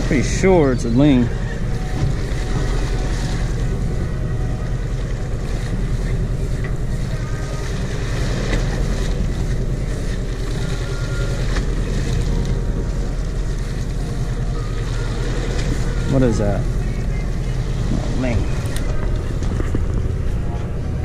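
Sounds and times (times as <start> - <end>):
boat engine humming: 0.0 - 21.0
water washing along hull: 0.0 - 21.0.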